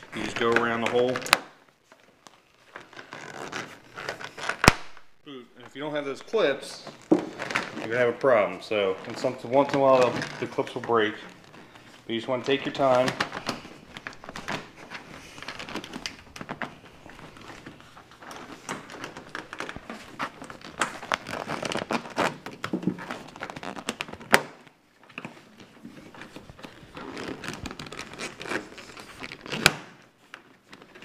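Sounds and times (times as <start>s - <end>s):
fabric cover rustling and crinkling: 0.0s - 31.0s.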